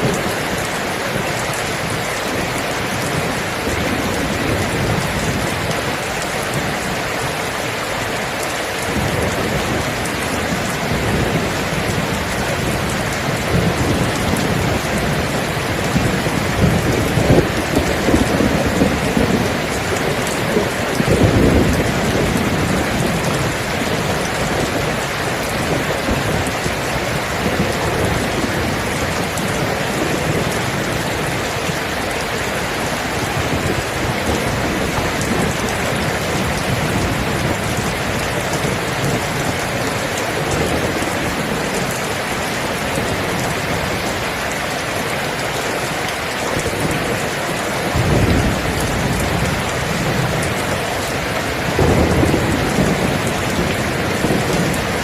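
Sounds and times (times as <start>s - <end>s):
rain falling: 0.0s - 55.0s
thunder rumbling: 0.0s - 55.0s.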